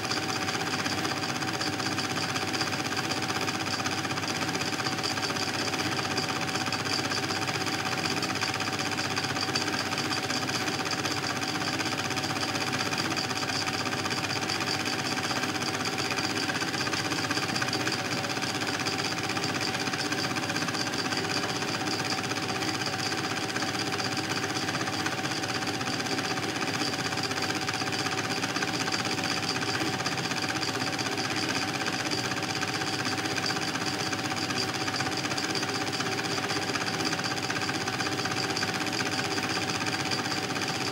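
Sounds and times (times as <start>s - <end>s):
film projector clattering: 0.0s - 40.9s.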